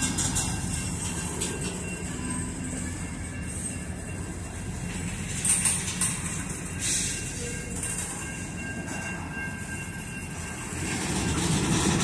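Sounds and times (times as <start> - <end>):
crossing warning bell ringing: 0.0 - 12.0
freight train rumbling: 0.0 - 12.0
train wheels squealing: 0.0 - 12.0.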